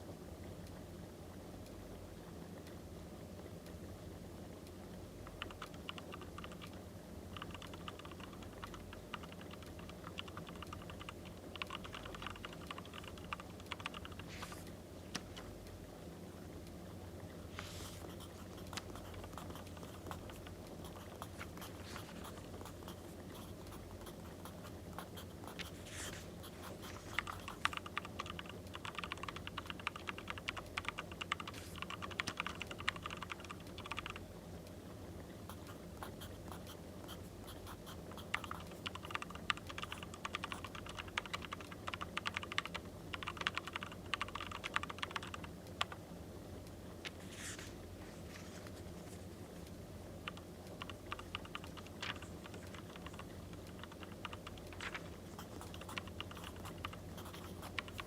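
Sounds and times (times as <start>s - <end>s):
faint steady hum: 0.0s - 58.0s
fine clicking and scratching: 5.2s - 15.5s, 17.5s - 34.3s, 35.5s - 46.0s, 47.0s - 58.0s.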